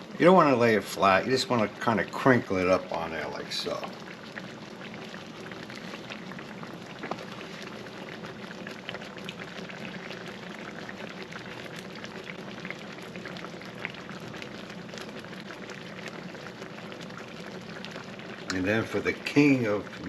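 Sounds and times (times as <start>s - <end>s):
sauce simmering in a skillet: 0.0s - 20.0s.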